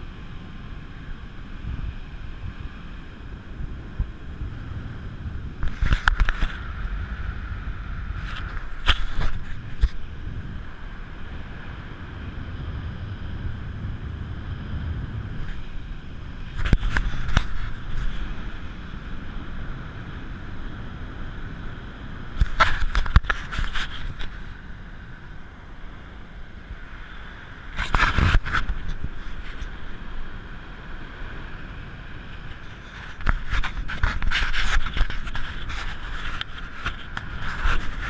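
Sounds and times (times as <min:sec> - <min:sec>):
motorboat engine hum: 0:00.0 - 0:38.0
wind gusts: 0:00.0 - 0:38.0.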